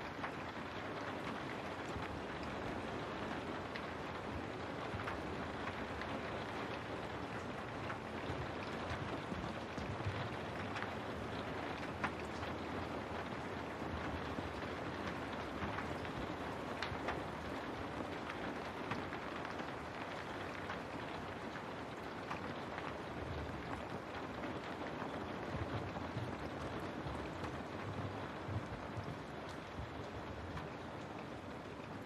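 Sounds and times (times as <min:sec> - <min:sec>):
rain on window glass: 0:00.0 - 0:32.0.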